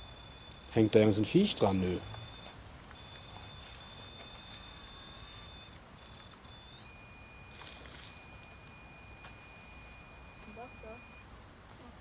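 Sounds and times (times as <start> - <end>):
high-pitched tonal whine: 0.0 - 12.0.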